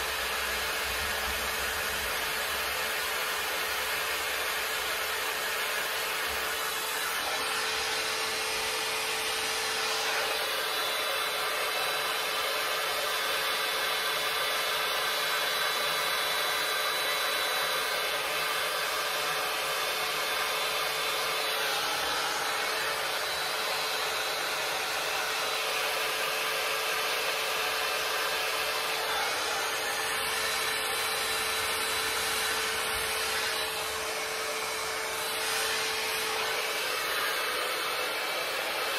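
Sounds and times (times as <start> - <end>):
hot air brush running: 0.0 - 38.9.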